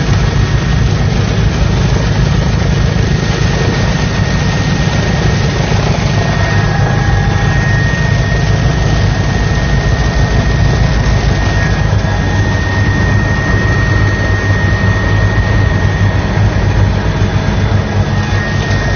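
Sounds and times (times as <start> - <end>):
helicopter engine and rotor: 0.0 - 18.9
high turbine whine: 0.0 - 18.9.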